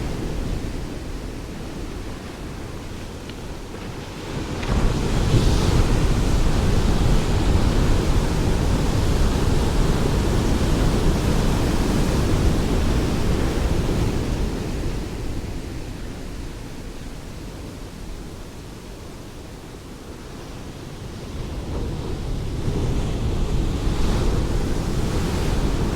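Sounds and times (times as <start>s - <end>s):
ocean waves crashing: 0.0s - 16.4s, 20.2s - 25.9s.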